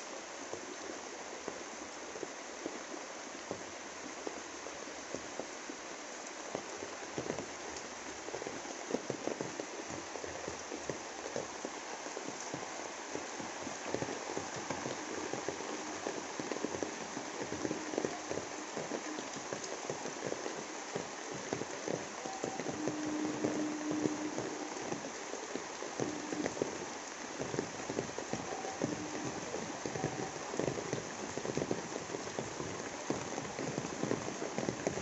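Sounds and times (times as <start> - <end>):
rain hiss: 0.0 - 35.0
raindrops tapping on leaves: 0.0 - 35.0.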